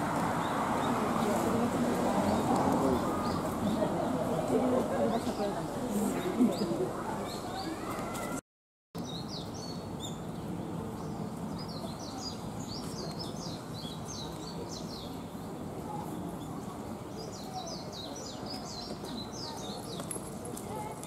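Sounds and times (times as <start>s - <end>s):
songbirds chirping: 0.0s - 8.4s, 9.0s - 21.0s.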